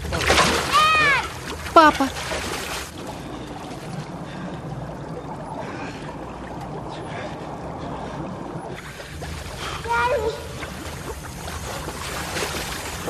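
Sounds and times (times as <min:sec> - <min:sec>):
muffled rush of water and bubbles: 0:00.0 - 0:13.0.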